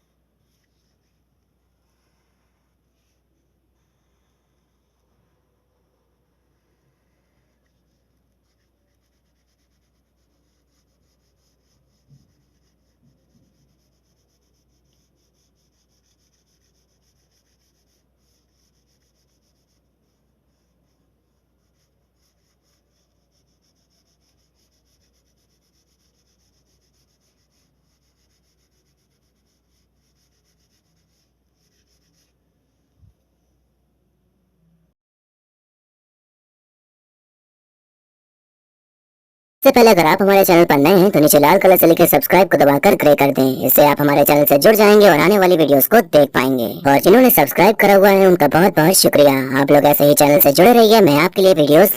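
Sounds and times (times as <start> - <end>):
pencil rubbing on paper: 0.4 - 1.3, 1.9 - 5.5, 6.2 - 32.4, 39.7 - 51.9.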